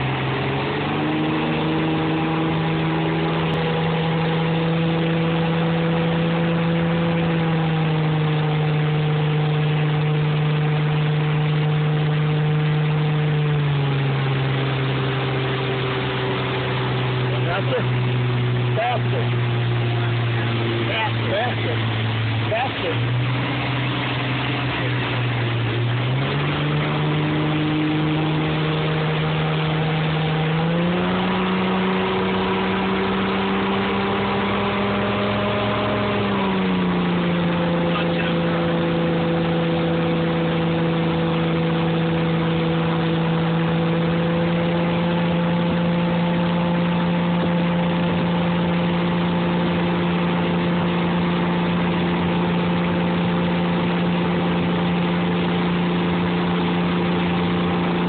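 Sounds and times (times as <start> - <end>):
motorboat engine running: 0.0 - 58.0
wind and water rushing: 0.0 - 58.0.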